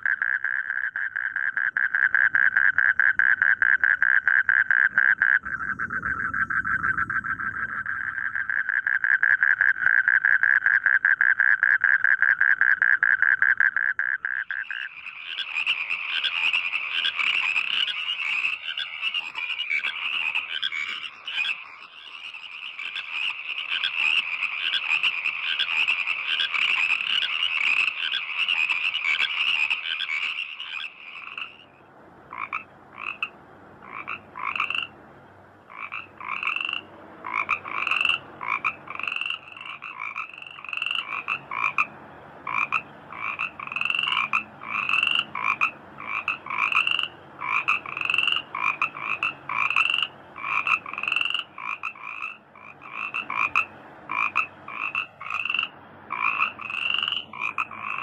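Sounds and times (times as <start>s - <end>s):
frogs calling in chorus: 0.0s - 34.9s, 35.7s - 58.0s.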